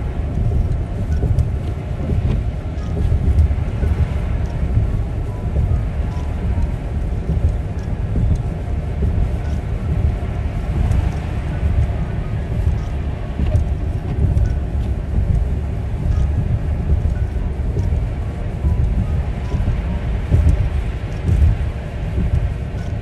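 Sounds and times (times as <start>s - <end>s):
vehicle engine and road noise: 0.0s - 23.0s
faint ticks: 0.1s - 23.0s.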